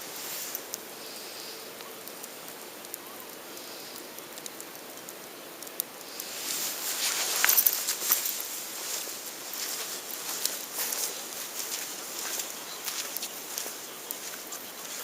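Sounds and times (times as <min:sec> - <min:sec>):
campfire hissing: 0:00.0 - 0:15.0
fire crackles and pops: 0:00.0 - 0:15.0.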